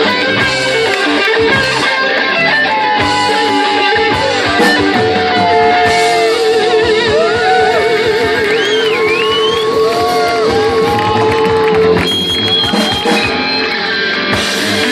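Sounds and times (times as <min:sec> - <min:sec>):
electric guitar bending notes: 0:00.0 - 0:14.9
rock band playing: 0:00.0 - 0:14.9.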